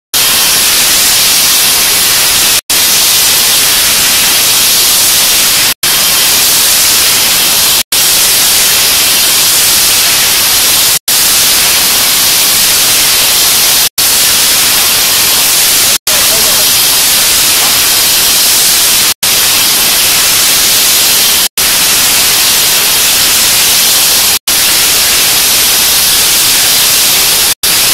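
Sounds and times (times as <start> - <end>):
loud static hiss: 0.2 - 27.9.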